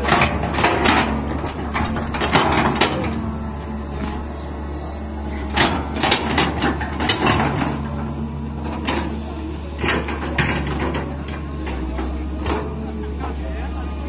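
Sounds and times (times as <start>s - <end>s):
diesel engine droning: 0.0s - 14.0s
excavator bucket clanking and scraping: 0.0s - 14.0s.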